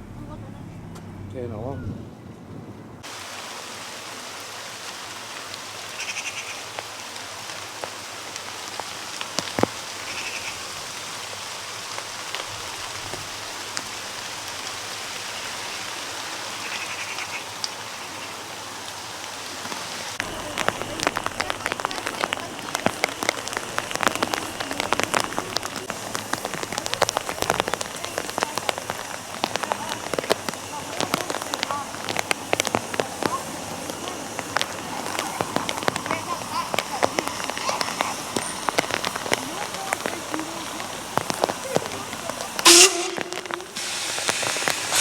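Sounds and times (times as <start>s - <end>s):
steady rain: 3.0s - 45.0s.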